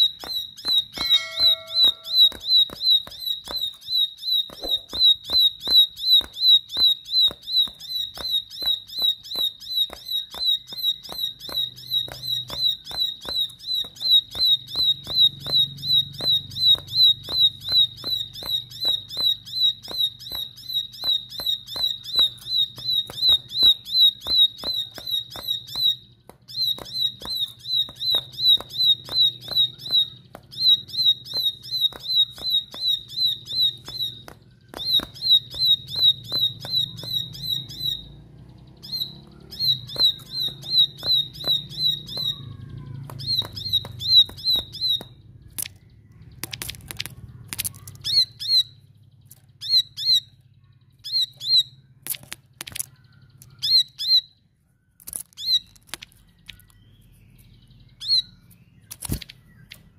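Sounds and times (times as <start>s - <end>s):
bird calling sharp clicking notes: 0.0s - 50.4s, 51.1s - 54.3s, 55.0s - 56.9s, 58.0s - 59.9s.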